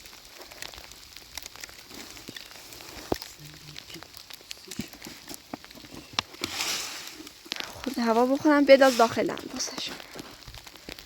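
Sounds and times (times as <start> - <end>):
small clicks and light crackling: 0.0 - 11.0.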